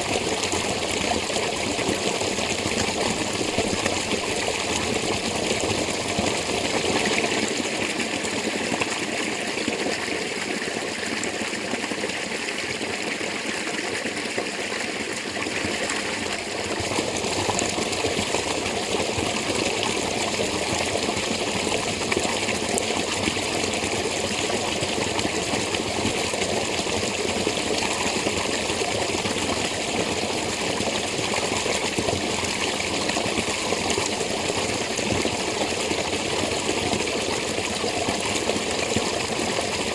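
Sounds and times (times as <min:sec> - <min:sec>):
spring water running: 0:00.0 - 0:39.9.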